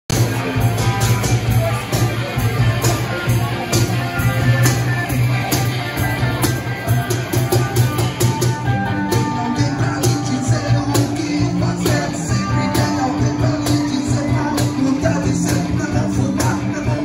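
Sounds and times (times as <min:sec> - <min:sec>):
cajon beat: 0:00.1 - 0:17.0
electric guitars: 0:00.1 - 0:17.0
man singing: 0:00.2 - 0:06.4, 0:08.8 - 0:17.0.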